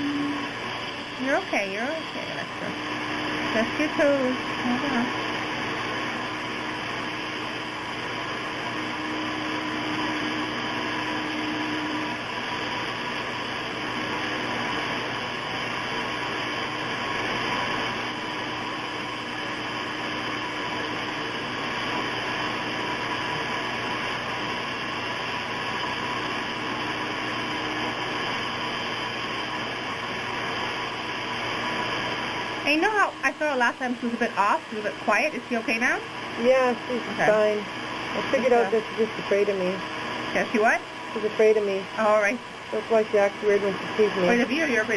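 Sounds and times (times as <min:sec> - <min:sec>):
electric rotary grinder running: 0:00.0 - 0:44.9.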